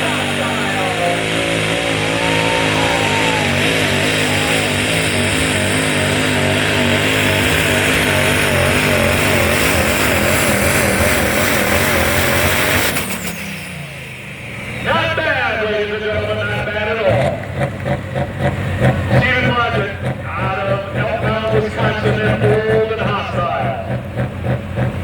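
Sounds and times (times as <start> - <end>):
diesel truck engine under full load: 0.0 - 25.0.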